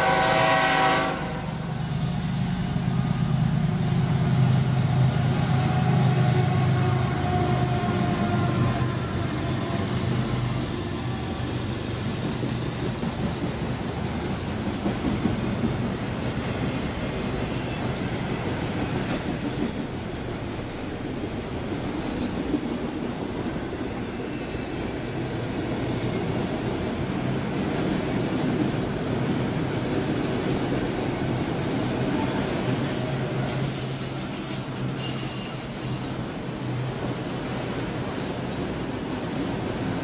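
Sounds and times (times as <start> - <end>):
diesel locomotive engine drone: 0.0 - 40.0
train wheels rolling on rails: 0.0 - 40.0.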